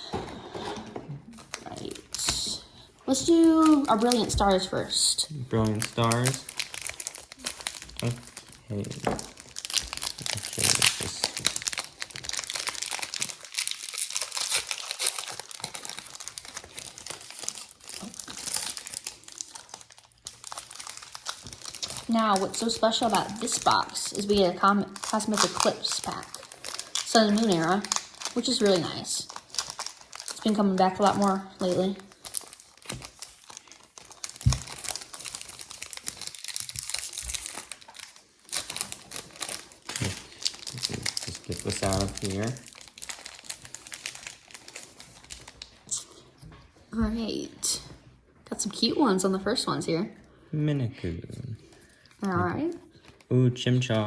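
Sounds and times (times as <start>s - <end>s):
foil wrappers crinkling and tearing: 1.3s - 46.4s.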